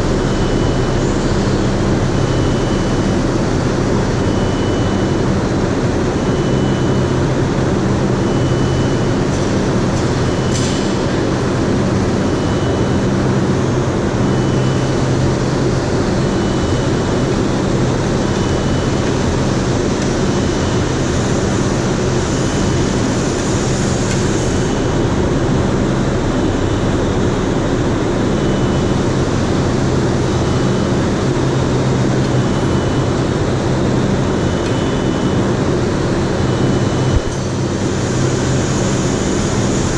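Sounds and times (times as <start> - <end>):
high warning beep: 0.0 - 39.8
machinery din with low hum: 0.0 - 39.9.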